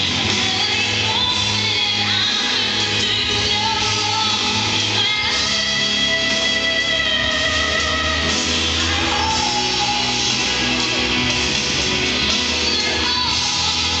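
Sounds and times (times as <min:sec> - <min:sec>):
rock song with singing and guitar: 0:00.0 - 0:14.0.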